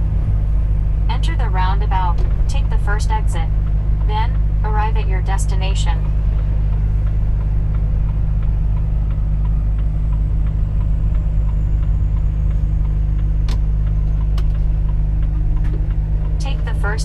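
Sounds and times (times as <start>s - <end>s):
truck diesel engine droning: 0.0s - 17.0s
faint regular ticking: 0.8s - 17.0s.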